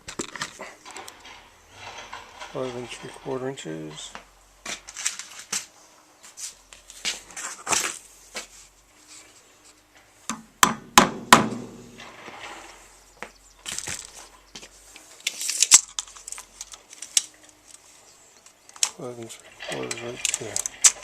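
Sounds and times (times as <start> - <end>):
wood scraping and rustling: 0.0 - 10.2, 11.1 - 21.0.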